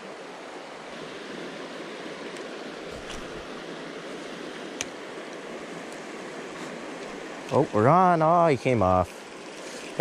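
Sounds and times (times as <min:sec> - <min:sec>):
creek water over rocks: 0:00.0 - 0:10.0.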